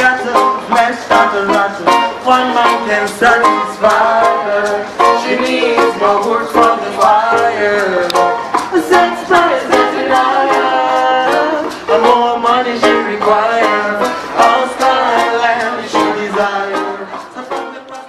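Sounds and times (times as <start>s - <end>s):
man singing into microphone: 0.0s - 18.0s
strummed acoustic guitar: 0.0s - 18.0s.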